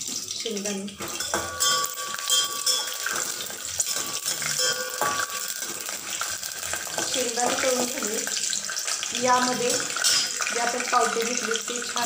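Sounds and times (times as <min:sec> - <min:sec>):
peanuts sizzling in oil: 0:00.0 - 0:12.0.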